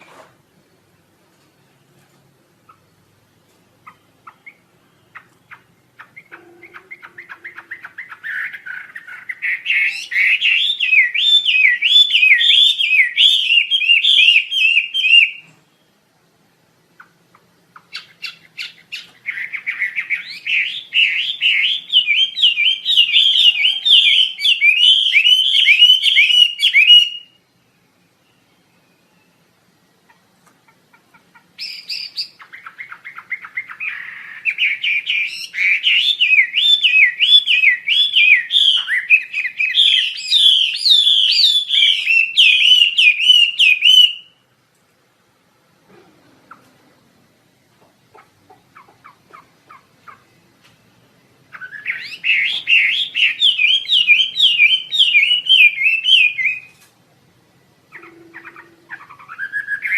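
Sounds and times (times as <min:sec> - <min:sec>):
songbird warbling: 0:03.8 - 0:15.8, 0:17.0 - 0:27.4, 0:28.2 - 0:44.4, 0:47.8 - 0:50.5, 0:51.5 - 0:56.8, 0:57.9 - 0:59.9.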